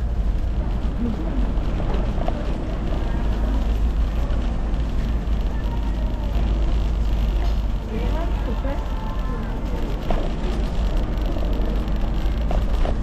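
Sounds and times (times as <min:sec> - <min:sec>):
faint passers-by voices: 0:00.0 - 0:13.0
wind rumble on microphone: 0:00.0 - 0:13.0.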